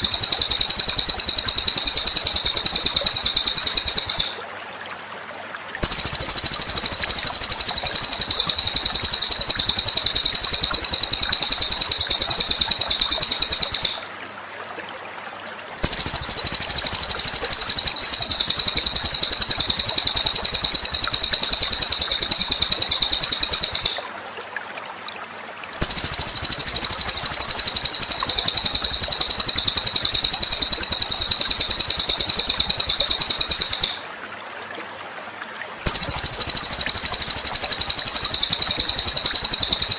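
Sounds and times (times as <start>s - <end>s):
songbird trilling: 0.0s - 4.4s, 5.8s - 14.0s, 15.8s - 24.0s, 25.8s - 34.0s, 35.9s - 39.9s.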